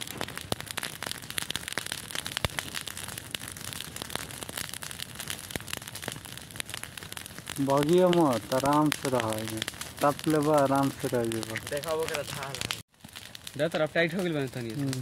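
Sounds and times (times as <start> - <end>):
brush fire crackling: 0.0 - 15.0.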